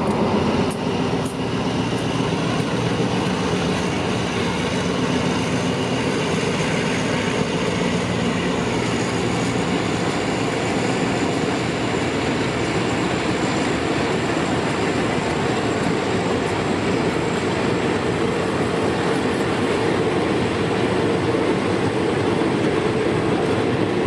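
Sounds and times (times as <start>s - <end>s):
train wheels clickety-clack: 0.0s - 24.0s.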